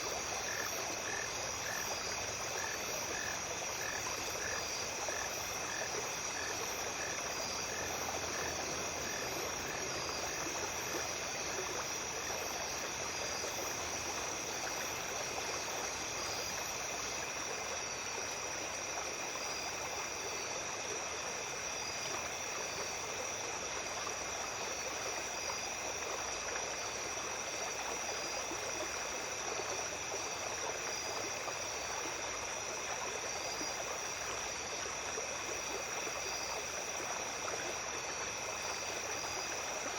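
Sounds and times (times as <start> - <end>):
insects chirping: 0.0 - 39.9
stream flowing: 0.0 - 39.9.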